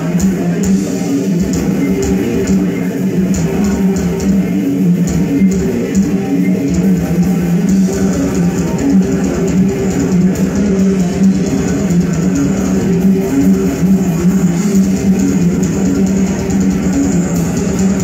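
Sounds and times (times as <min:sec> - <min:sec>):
death metal band playing live: 0:00.0 - 0:18.0.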